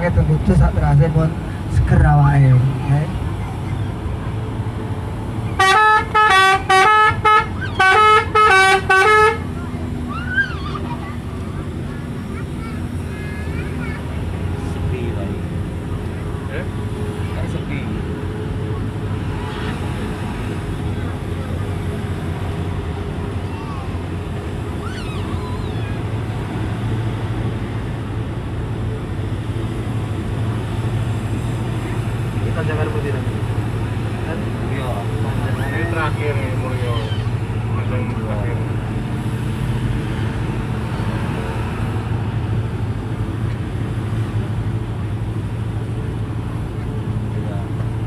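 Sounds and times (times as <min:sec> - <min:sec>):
road and wind noise: 0:00.0 - 0:48.0
vehicle engine droning: 0:00.0 - 0:48.0.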